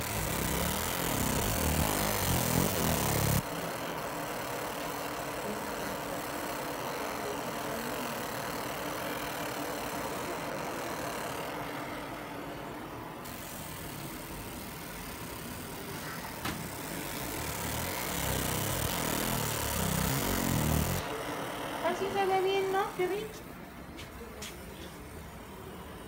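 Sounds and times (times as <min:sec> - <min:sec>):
laser machine humming: 0:00.0 - 0:26.0.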